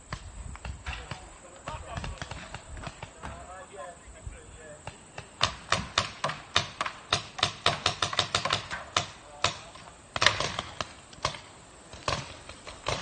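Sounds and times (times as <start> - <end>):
paintball markers firing: 0.1 - 3.4, 4.8 - 13.0.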